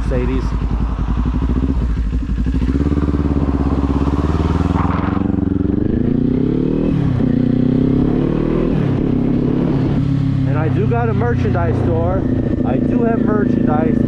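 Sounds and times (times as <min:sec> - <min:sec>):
motorcycle engine pulling away: 0:00.6 - 0:14.0.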